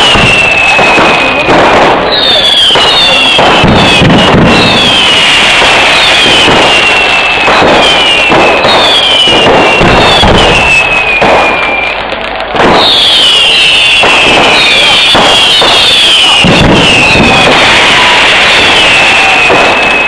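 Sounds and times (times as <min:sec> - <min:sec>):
fireworks bangs and crackle: 0:00.0 - 0:20.0
whistling firework shells: 0:00.0 - 0:20.0.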